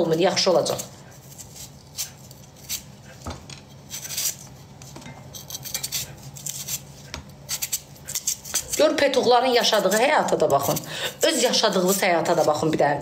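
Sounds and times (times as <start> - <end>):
knife scraping fruit skin: 0.3 - 12.8.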